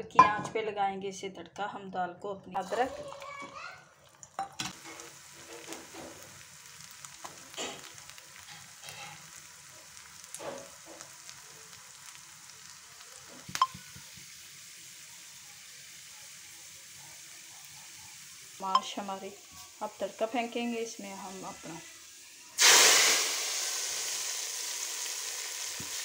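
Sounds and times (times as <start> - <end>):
ginger sizzling in hot fat: 2.6 - 26.0.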